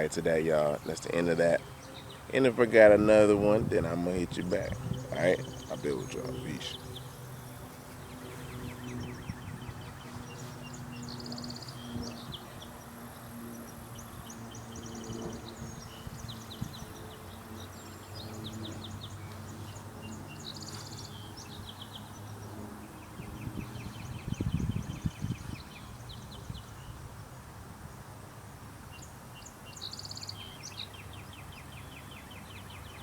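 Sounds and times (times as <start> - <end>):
steady low hum: 0.0 - 26.8
birds trilling and chirping: 0.0 - 26.9.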